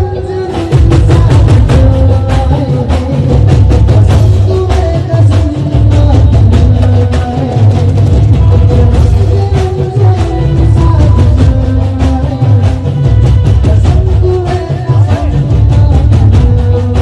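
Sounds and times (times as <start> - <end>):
song with heavy drum beat: 0.0 - 17.0.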